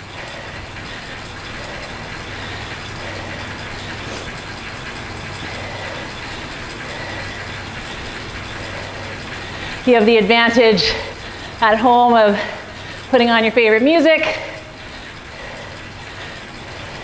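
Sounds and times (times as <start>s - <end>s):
bicycle trainer whirring: 0.0s - 17.0s.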